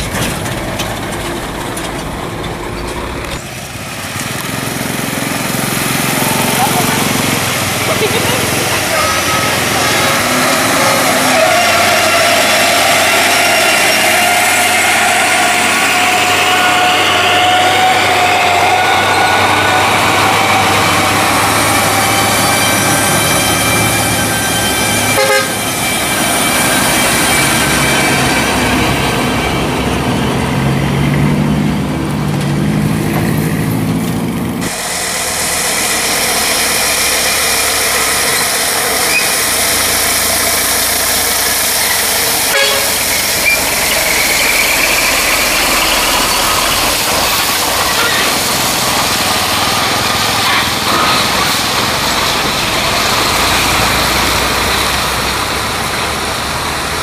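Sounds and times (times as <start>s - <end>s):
truck diesel engine approaching: 0.0s - 57.0s
truck diesel engine under load: 0.0s - 57.0s.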